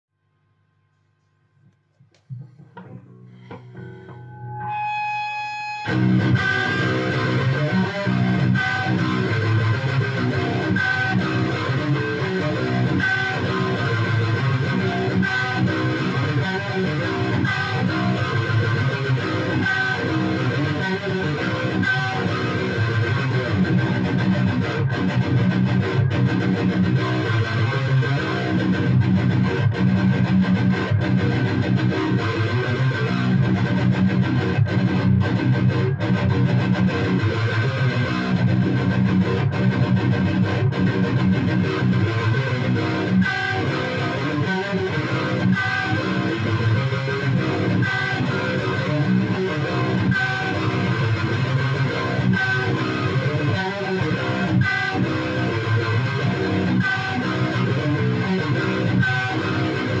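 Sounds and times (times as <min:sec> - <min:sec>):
electric guitar riff: 0:02.1 - 1:00.0.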